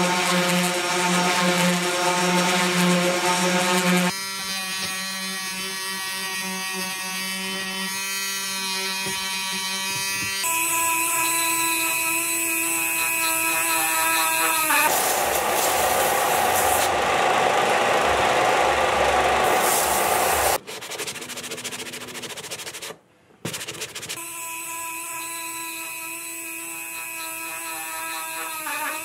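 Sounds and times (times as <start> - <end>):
rotary tool sanding plastic: 0.0 - 17.9, 19.2 - 23.0, 23.6 - 29.0
orbital sander pulsing hum: 0.0 - 20.6, 24.2 - 29.0
small rotary tool high whine: 0.0 - 20.6, 24.2 - 29.0.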